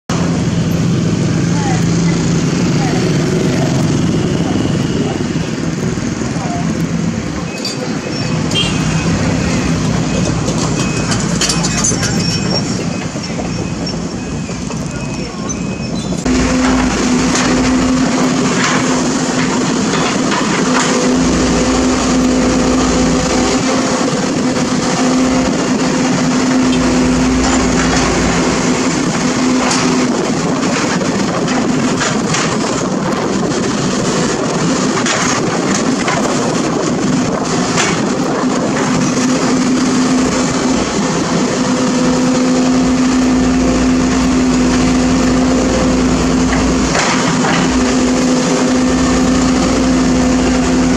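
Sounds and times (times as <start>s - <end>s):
excavator engine hum: 0.1s - 50.9s.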